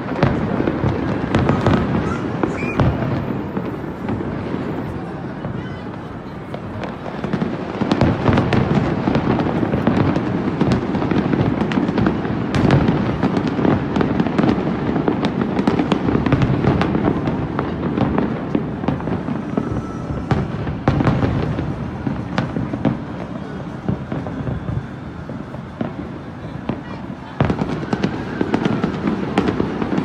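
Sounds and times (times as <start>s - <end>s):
fireworks bangs and crackles: 0.0s - 30.0s
loud firework crack: 0.0s - 30.0s.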